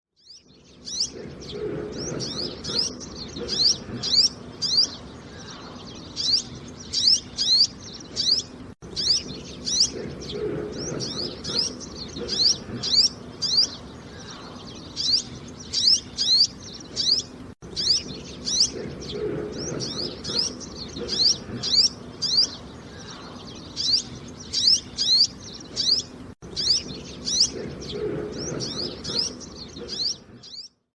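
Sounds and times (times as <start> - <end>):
small songbird chirping: 0.1 - 30.9
low cooing call: 0.9 - 8.4, 9.0 - 26.0, 26.6 - 30.6.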